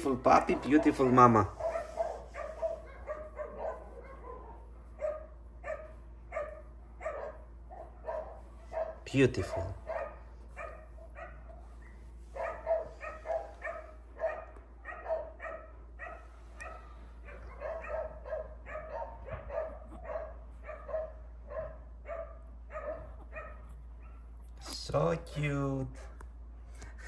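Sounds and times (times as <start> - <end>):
dog barking: 0.3 - 24.4.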